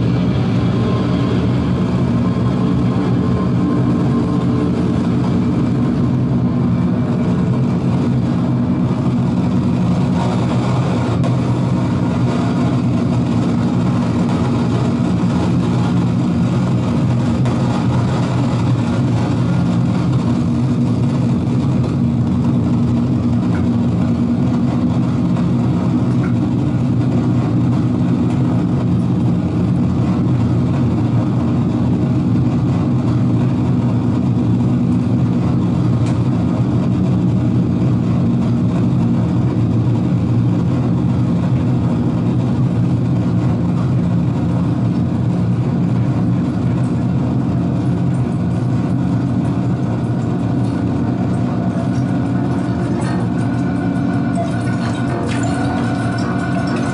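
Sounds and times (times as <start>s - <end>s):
low rumbling synthesizer drone: 0.0s - 56.9s.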